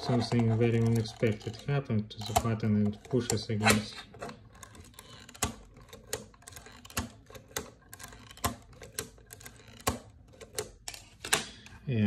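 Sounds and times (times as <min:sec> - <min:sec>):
sharp plastic clicks: 0:00.0 - 0:11.7.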